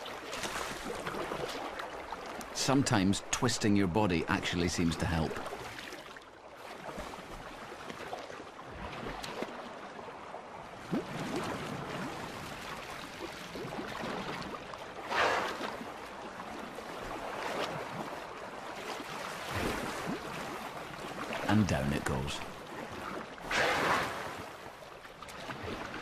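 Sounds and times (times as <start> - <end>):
rush of water: 0.0 - 26.0
water splashing and lapping: 0.0 - 26.0.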